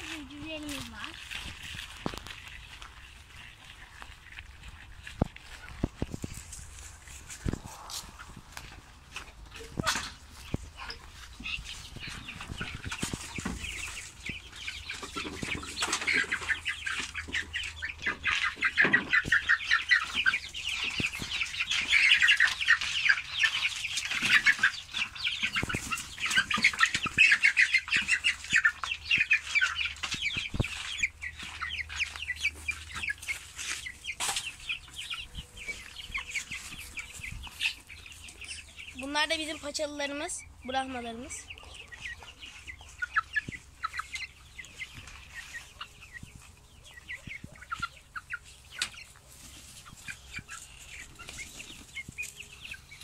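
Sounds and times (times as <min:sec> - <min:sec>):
chickens squawking and clucking: 0:00.0 - 0:53.0.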